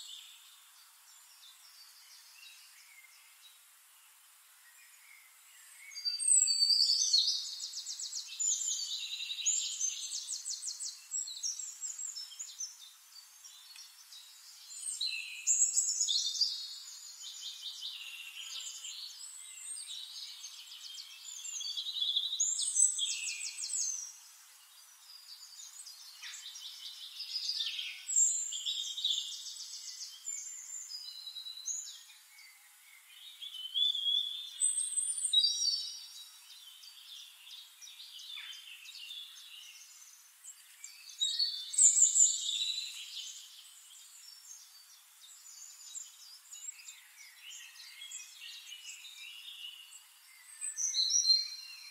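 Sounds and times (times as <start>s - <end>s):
songbirds singing and chirping: 0.0s - 51.9s.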